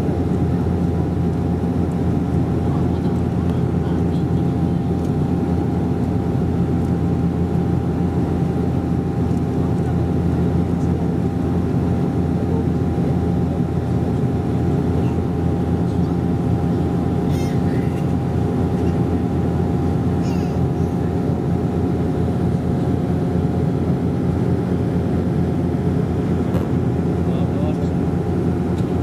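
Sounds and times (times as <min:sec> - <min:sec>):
turboprop engines droning: 0:00.0 - 0:29.0.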